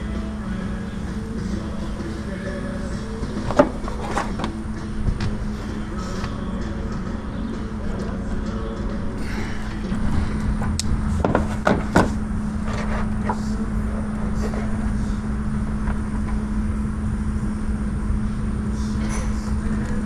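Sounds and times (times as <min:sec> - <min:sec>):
low mechanical hum: 0:00.0 - 0:20.0
rumble: 0:00.0 - 0:20.0.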